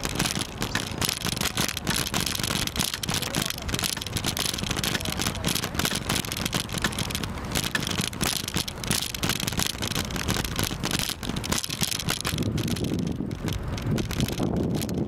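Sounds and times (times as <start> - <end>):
bike rattling: 0.0 - 15.0
wind buffeting microphone: 0.0 - 15.0.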